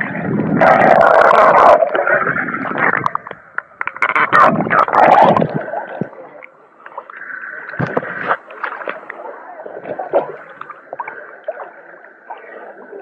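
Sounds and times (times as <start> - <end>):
water gurgling and splashing: 0.0 - 13.0.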